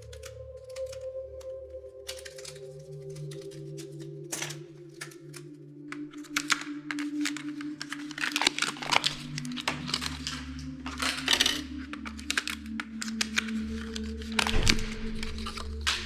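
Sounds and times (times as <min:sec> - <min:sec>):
clicks and crinkling of plastic: 0:00.0 - 0:16.0.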